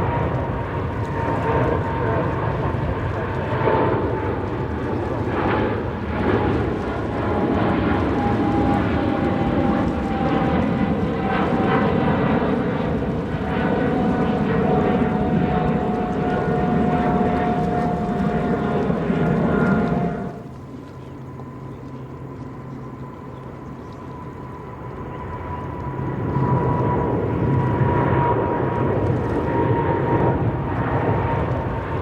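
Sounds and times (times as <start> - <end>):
jet engines taking off: 0.0 - 32.0.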